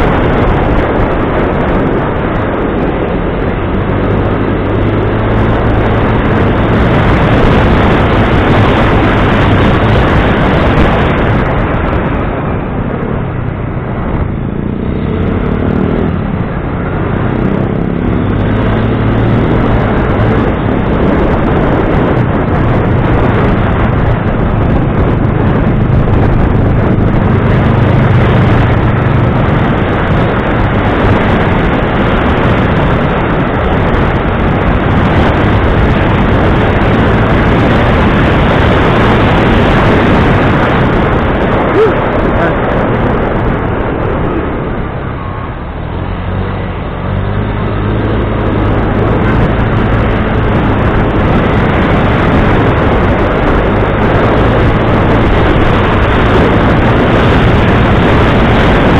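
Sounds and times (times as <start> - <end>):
engine running: 0.0 - 58.9
loud rushing noise: 0.0 - 58.9.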